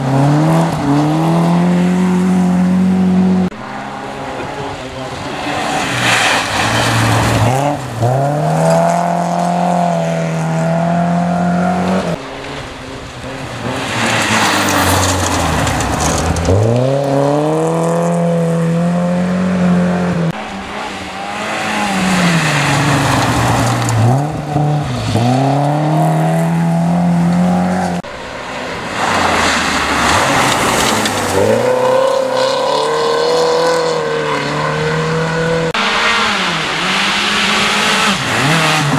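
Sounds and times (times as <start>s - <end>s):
rally cars driving past: 0.0s - 38.9s.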